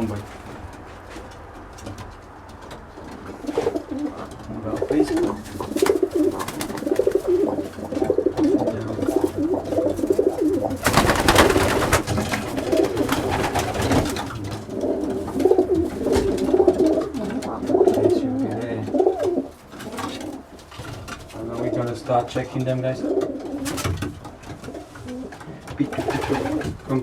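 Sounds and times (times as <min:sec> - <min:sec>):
rustling flurry of wings: 0:00.0 - 0:18.3, 0:23.4 - 0:27.0
pigeons cooing: 0:00.0 - 0:27.0.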